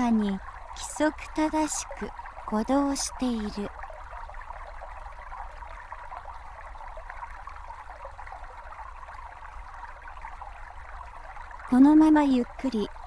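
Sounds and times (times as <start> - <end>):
brook babbling: 0.0 - 13.0.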